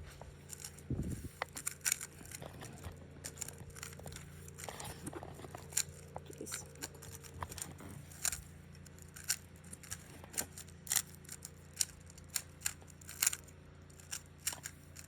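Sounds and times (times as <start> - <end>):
faint steady hum: 0.0 - 15.0
puzzle cube clicking: 0.4 - 15.0.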